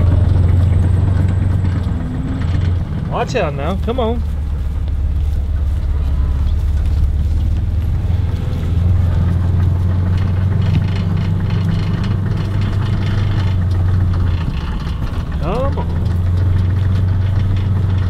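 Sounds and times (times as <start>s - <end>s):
utility vehicle engine droning: 0.0s - 18.0s.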